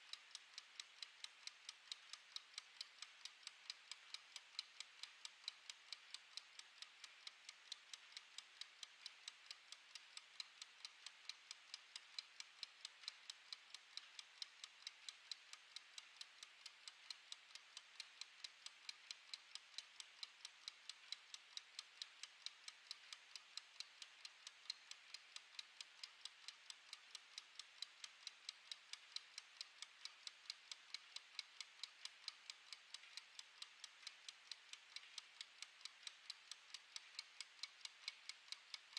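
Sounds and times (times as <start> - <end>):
kitchen timer ticking: 0.0 - 38.9.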